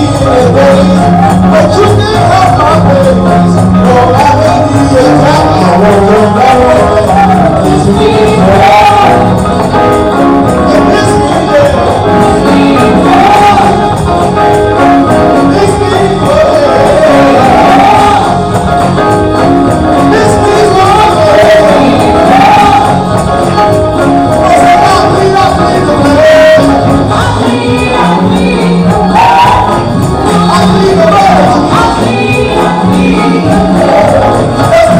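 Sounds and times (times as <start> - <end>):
live band accompaniment: 0.0 - 34.9
voices singing gospel: 0.0 - 34.9.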